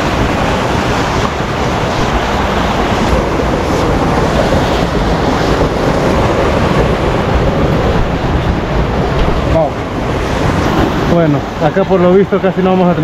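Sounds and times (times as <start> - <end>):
water rushing through canyon: 0.0 - 13.0
wind noise on microphone: 0.0 - 13.0.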